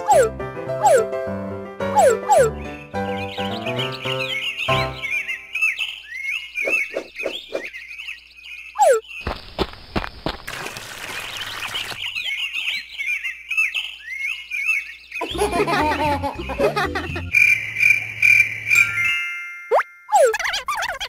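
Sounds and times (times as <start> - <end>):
cartoon birds chirping: 0.0 - 1.2, 1.8 - 9.6, 10.8 - 19.1, 19.7 - 21.0.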